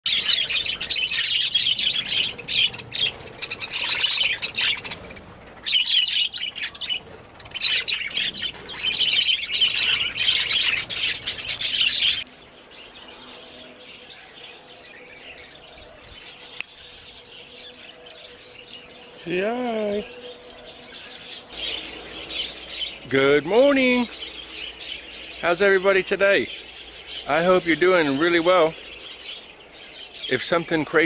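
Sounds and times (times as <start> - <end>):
budgies chattering and chirping: 0.1 - 31.0.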